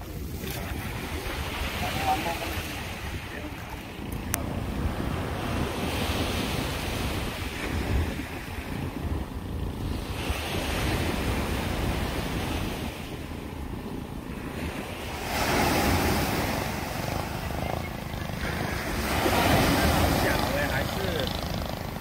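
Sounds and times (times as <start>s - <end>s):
waves washing up a sand beach: 0.0s - 22.0s
wind rumble on microphone: 0.0s - 22.0s.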